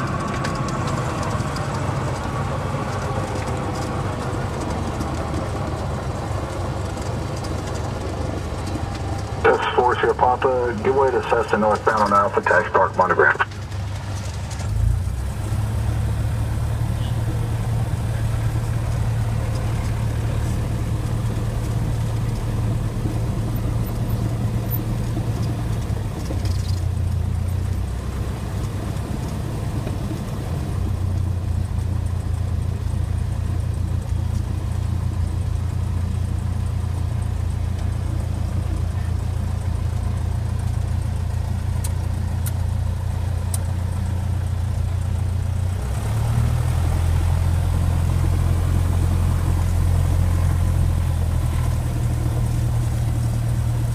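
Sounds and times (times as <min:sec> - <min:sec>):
propeller aircraft engine drone: 0:00.0 - 0:53.9.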